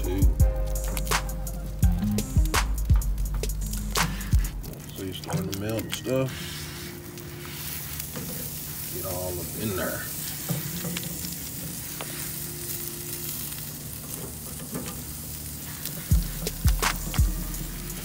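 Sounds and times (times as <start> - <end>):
crab legs sizzling on a grill: 0.0 - 18.0.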